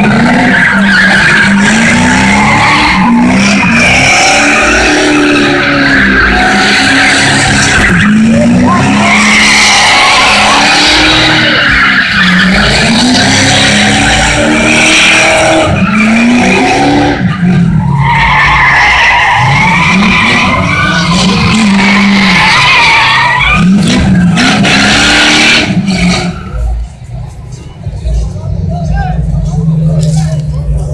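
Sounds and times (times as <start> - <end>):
tyres squealing: 0.0 - 26.9
car engines revving: 0.0 - 30.9.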